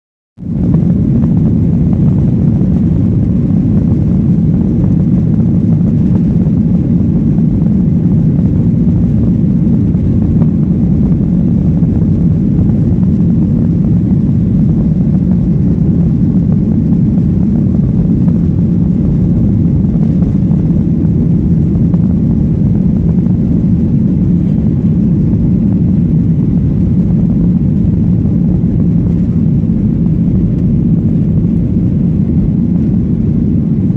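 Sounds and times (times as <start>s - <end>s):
jet engine rumble in cabin: 0.4s - 33.9s.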